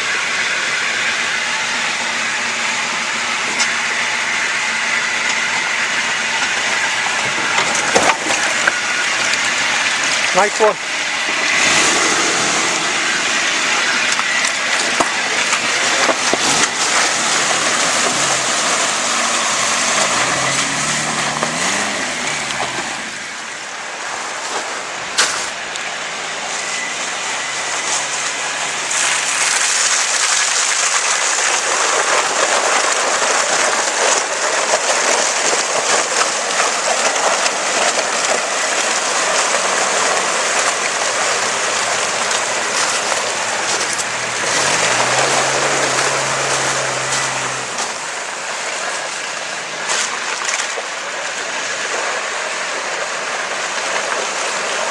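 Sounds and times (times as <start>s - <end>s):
off-road vehicle engine revving: 0.0s - 54.9s
vehicle rumble and rattle: 0.0s - 54.9s
vehicle splashing through water: 0.0s - 54.9s.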